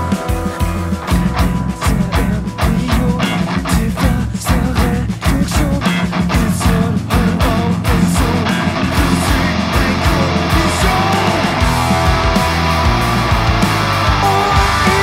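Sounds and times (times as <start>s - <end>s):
drum kit beat: 0.0s - 15.0s
electric guitars: 0.0s - 15.0s.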